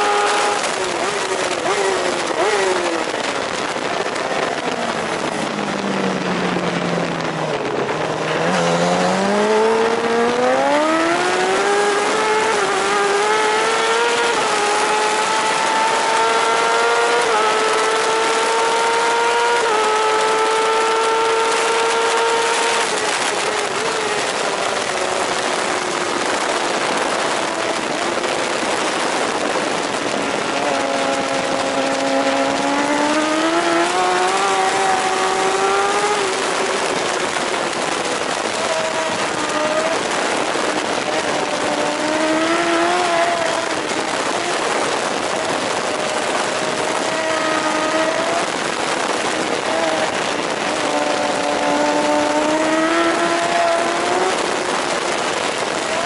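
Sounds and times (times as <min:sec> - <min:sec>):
motorcycle engine revving: 0:00.0 - 0:56.0
wind rushing over microphone: 0:00.0 - 0:56.0.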